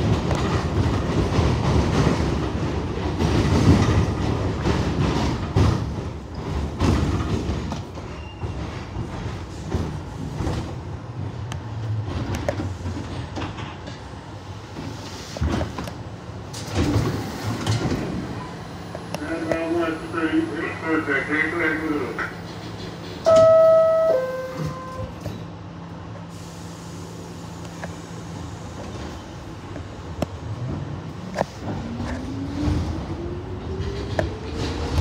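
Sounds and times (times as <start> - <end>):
subway train wheels rumbling: 0.0 - 35.0.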